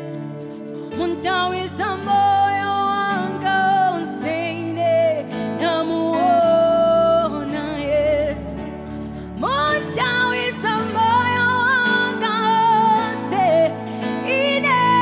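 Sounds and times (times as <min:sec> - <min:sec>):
woman singing gospel song: 0:00.9 - 0:08.8, 0:09.4 - 0:15.0.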